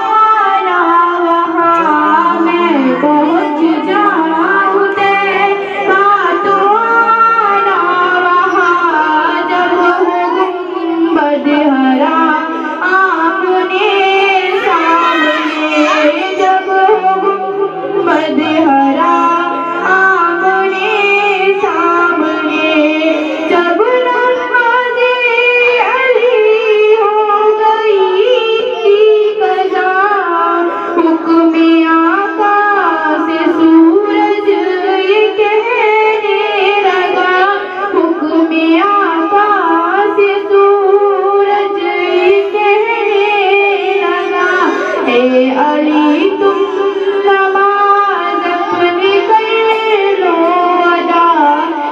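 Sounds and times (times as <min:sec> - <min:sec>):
woman singing: 0:00.0 - 0:51.9.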